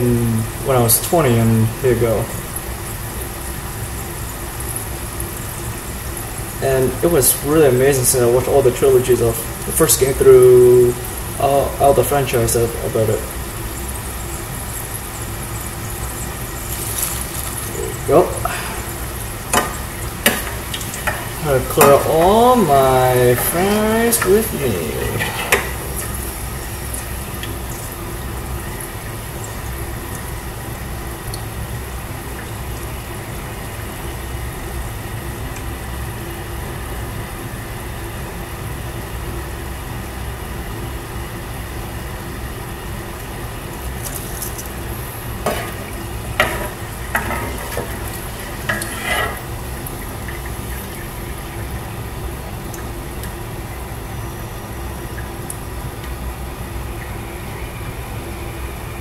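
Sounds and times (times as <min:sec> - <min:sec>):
fries sizzling in hot oil: 0:00.0 - 0:59.0.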